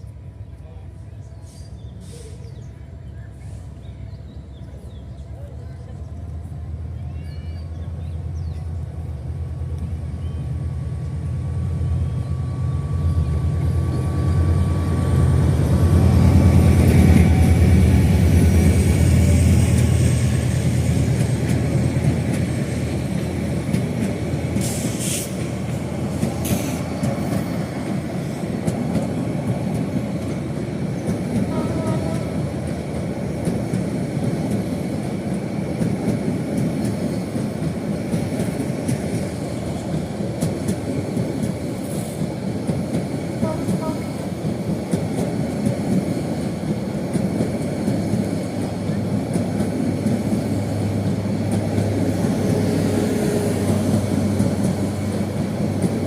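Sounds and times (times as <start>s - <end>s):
passenger train rumbling past: 0.0s - 56.0s.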